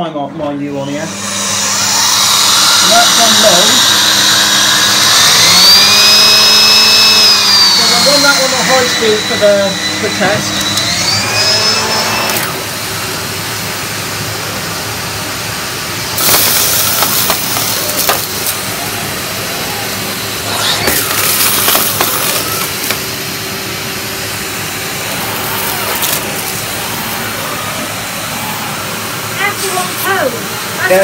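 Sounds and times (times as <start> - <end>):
vacuum cleaner on carpet: 0.6 - 31.0.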